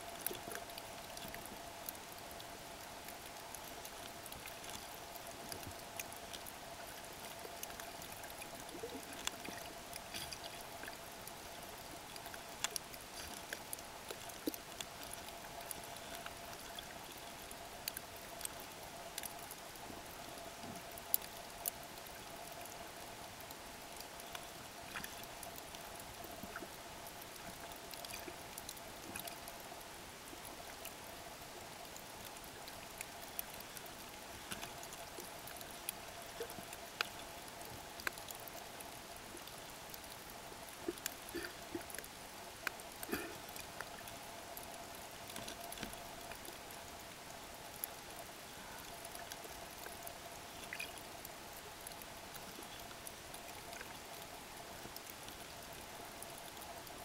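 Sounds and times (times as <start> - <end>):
faint steady hum: 0.0 - 57.0
crackling clicks and pops: 0.1 - 57.0.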